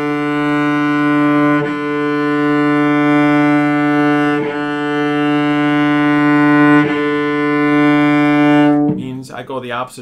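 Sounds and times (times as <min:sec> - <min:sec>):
cello bowed sustained note: 0:00.0 - 0:09.3.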